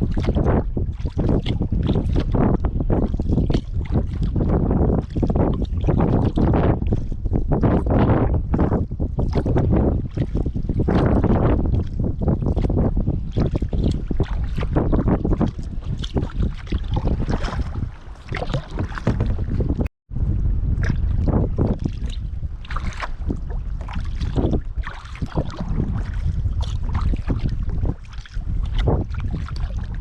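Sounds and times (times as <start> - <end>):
kayak paddle splashing in water: 0.0 - 6.6, 8.6 - 19.9, 20.7 - 30.0
wind buffeting microphone: 0.0 - 30.0.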